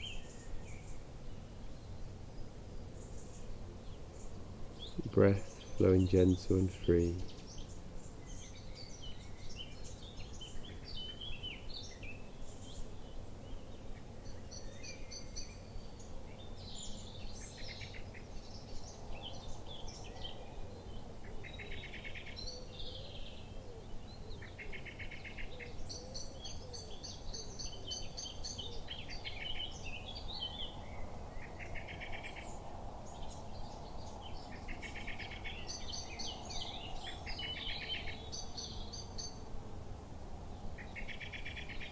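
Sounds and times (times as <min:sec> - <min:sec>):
wild birds chirping and trilling: 0:00.0 - 0:41.9.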